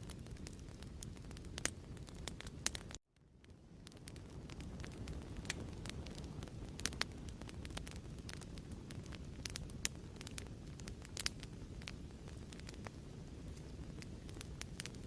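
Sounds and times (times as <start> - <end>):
fire flames rumbling: 0.0 - 15.0
fire popping and snapping: 0.0 - 15.0.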